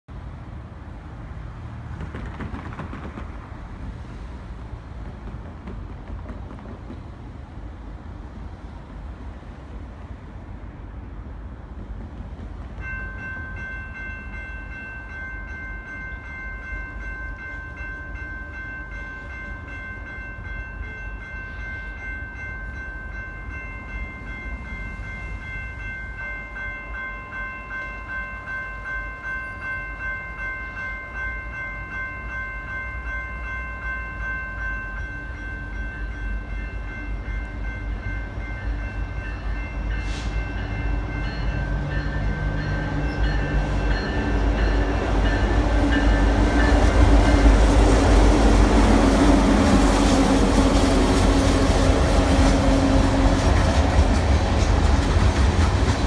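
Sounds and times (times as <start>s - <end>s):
train rumble: 0.1s - 56.0s.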